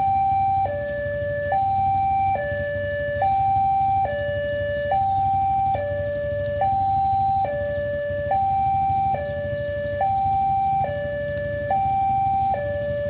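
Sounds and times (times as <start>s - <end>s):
level crossing two-tone alarm: 0.0s - 13.0s.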